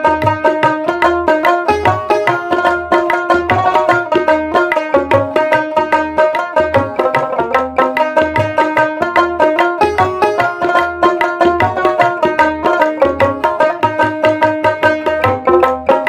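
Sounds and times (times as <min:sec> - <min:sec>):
plucked-string melody: 0:00.0 - 0:16.0.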